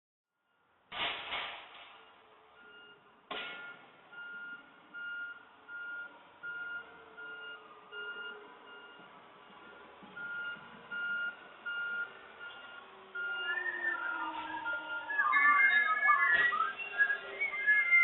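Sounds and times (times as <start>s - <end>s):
faint truck engine: 0.4s - 18.0s
truck backup alarm beeping: 2.0s - 18.0s.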